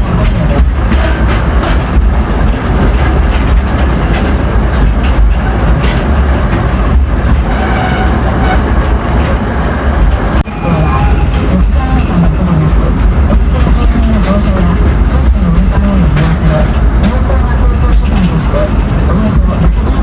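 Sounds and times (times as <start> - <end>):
wheels clicking over rail joints: 0.0 - 10.4, 11.2 - 20.0
train rumbling: 0.0 - 20.0.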